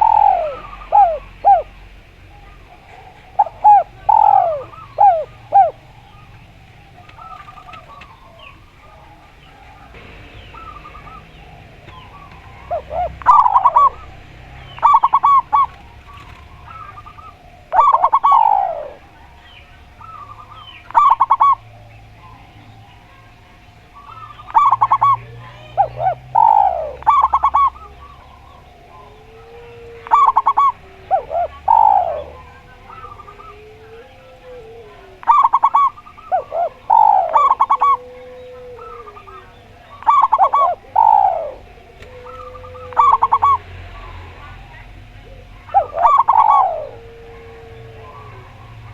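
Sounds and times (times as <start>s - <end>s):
doves cooing: 0.0s - 48.9s.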